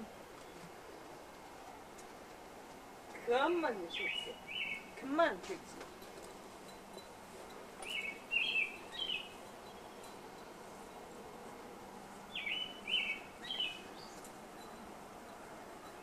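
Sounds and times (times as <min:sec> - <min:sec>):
outdoor background hiss: 0:00.0 - 0:16.0
songbird chirping: 0:00.0 - 0:16.0.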